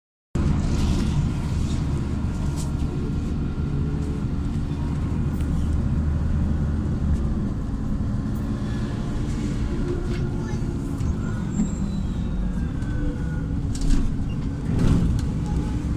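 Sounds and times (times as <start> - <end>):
bus engine droning: 0.4 - 15.9.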